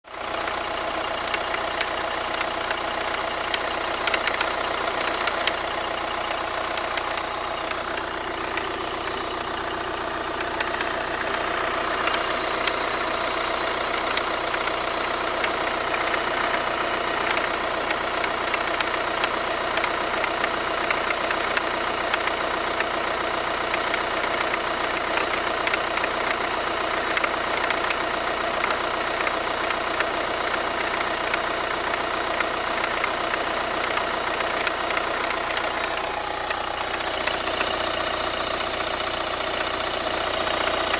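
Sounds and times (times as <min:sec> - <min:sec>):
diesel engine idling: 0:00.1 - 0:40.9.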